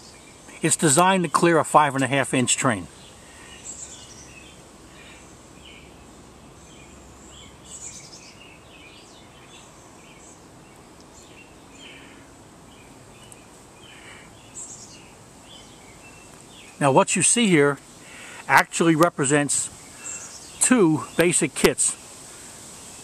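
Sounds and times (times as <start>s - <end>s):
birds chirping: 0.0s - 23.0s
faint steady hiss: 0.0s - 23.0s.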